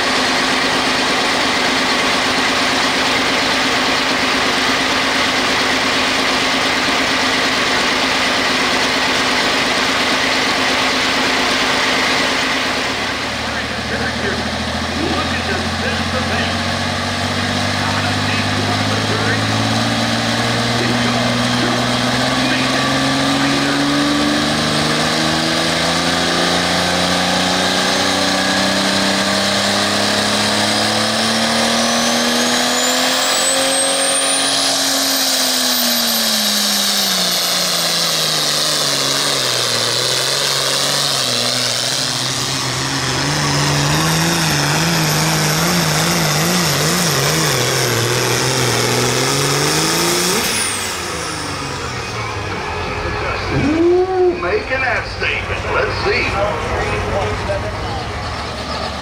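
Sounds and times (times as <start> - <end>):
tractor diesel engine at full throttle: 0.0 - 59.0.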